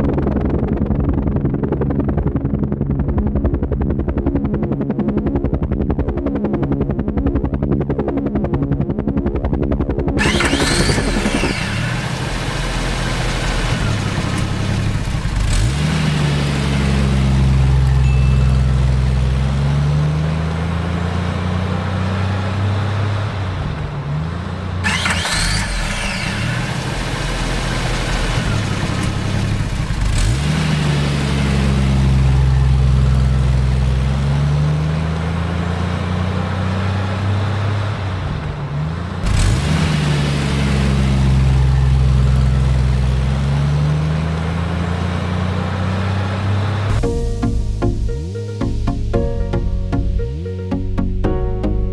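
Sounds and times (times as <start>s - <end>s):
engine running and revving: 0.0s - 49.0s.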